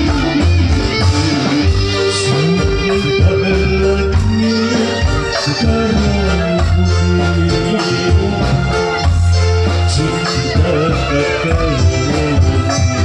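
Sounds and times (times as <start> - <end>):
live band music: 0.0 - 13.0
organ-like keyboard notes: 0.0 - 13.0
steady bass line: 0.0 - 13.0.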